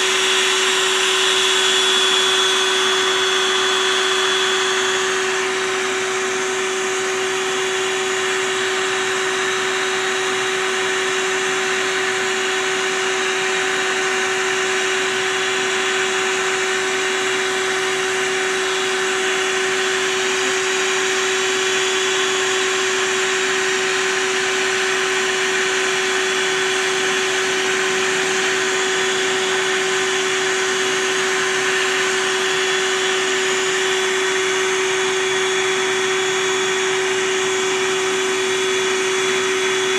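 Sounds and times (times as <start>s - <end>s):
vacuum motor humming: 0.0s - 39.9s.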